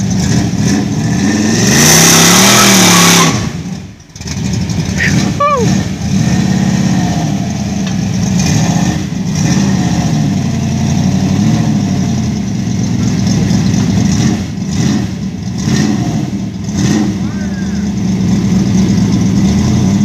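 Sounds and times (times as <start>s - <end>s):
car engine lumpy idle: 0.0s - 1.0s, 3.6s - 9.4s, 10.2s - 15.7s, 16.3s - 20.0s
car engine revving: 0.0s - 20.0s.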